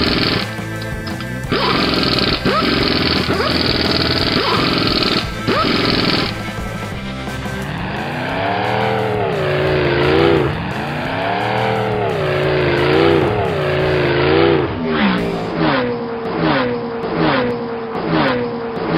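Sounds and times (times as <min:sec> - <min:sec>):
race car engine revving: 0:00.0 - 0:18.9.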